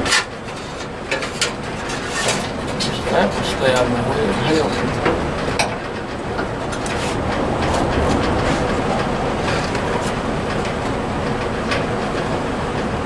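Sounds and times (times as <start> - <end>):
clicking and rustling of hoses: 0.0 - 13.0
steady background rumble: 1.0 - 13.0.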